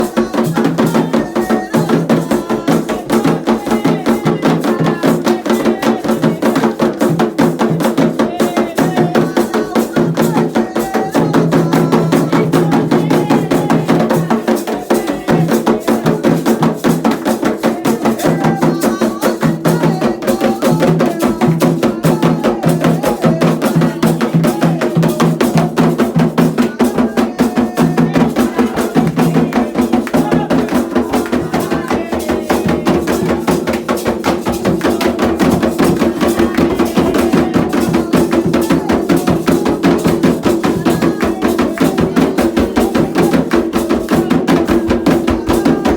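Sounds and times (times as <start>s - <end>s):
drums playing fast rhythm: 0.0s - 45.9s
voices singing: 0.0s - 45.9s.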